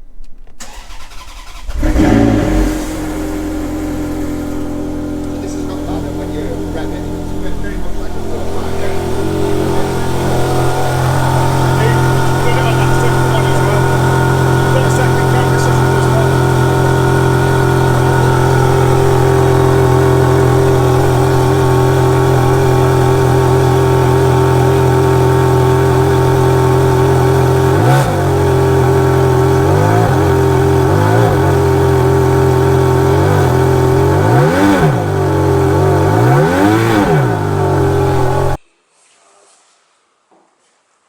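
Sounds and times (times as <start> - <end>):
engine revving: 0.6 - 38.6
sports car engine idling: 0.6 - 38.6.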